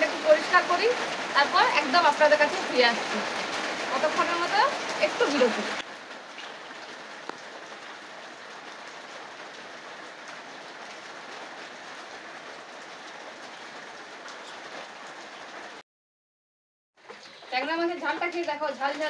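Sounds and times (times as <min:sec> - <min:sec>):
heavy rain hissing: 0:00.0 - 0:15.8.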